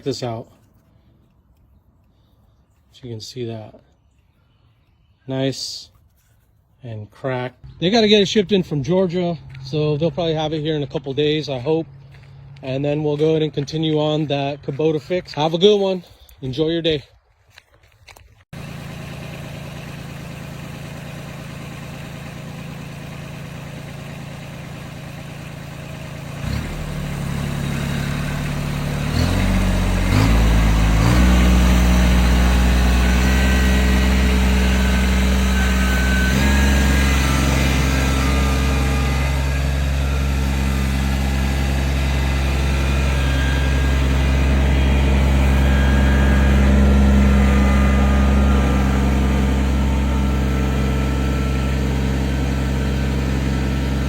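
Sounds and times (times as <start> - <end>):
engine running: 7.1 - 54.0.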